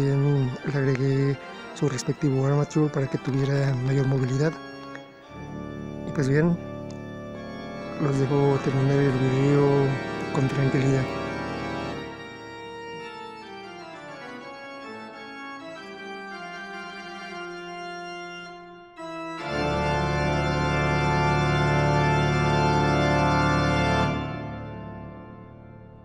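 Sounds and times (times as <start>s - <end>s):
organ music: 0.0s - 26.0s.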